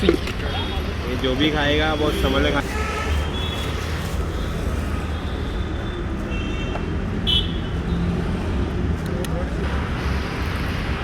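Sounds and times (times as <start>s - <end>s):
passing traffic rumble: 0.0s - 11.0s.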